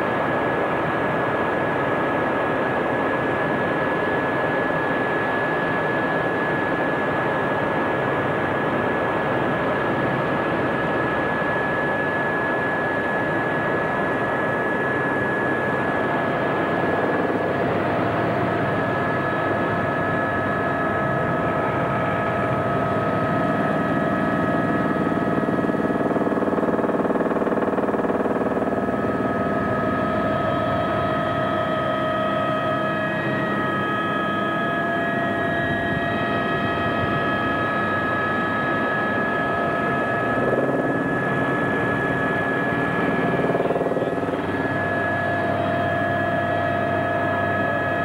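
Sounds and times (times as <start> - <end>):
high turbine whines: 0.0 - 48.0
helicopter cabin rush: 2.2 - 48.0.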